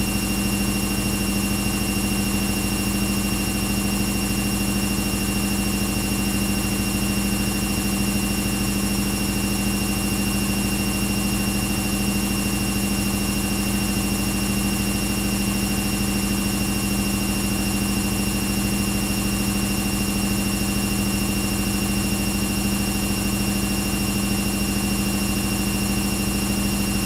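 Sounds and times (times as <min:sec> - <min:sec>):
washing machine humming: 0:00.0 - 0:27.0.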